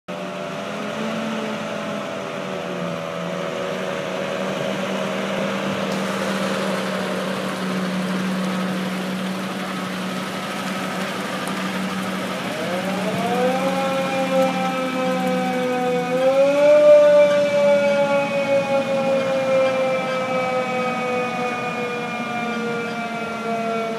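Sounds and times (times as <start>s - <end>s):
fire truck engine running: 0.1s - 23.9s
siren wailing: 0.2s - 23.9s.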